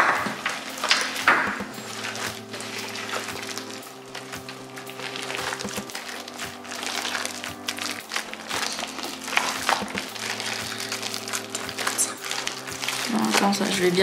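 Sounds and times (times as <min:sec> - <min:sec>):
slime squelching and popping: 0:00.0 - 0:14.0
soft background music: 0:00.0 - 0:14.0.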